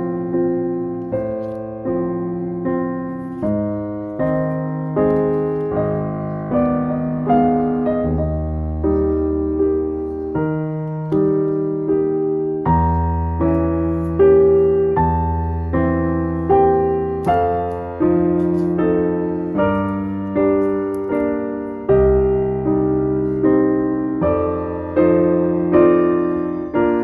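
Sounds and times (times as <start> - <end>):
slow piano chords: 0.0 - 27.0.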